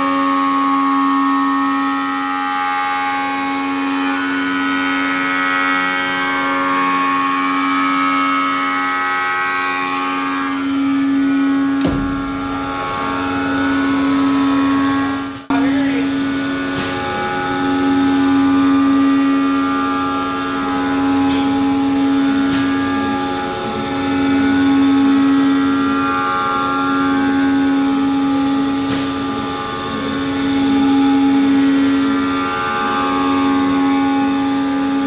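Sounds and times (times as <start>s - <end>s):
machine hum with high tones: 0.0s - 35.0s.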